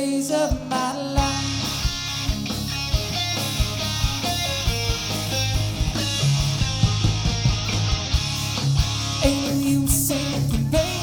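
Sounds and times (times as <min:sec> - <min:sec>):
bass guitar: 0:00.5 - 0:11.0
steady drum beat: 0:00.5 - 0:11.0
strummed electric guitar: 0:00.5 - 0:11.0.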